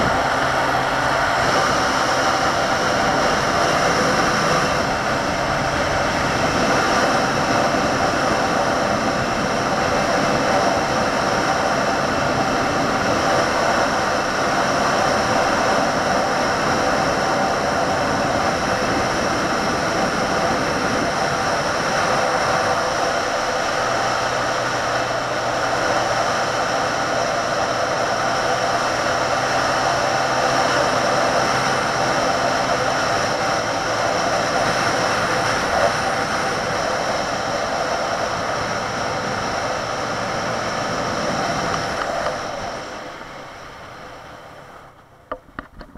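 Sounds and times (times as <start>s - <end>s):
wind on microphone: 0.0s - 43.3s
motorcycle engine cruising: 0.0s - 45.9s.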